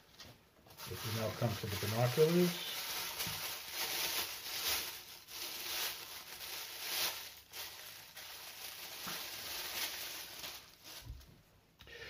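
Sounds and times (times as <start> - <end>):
plastic bag crinkling: 0.7 - 11.4.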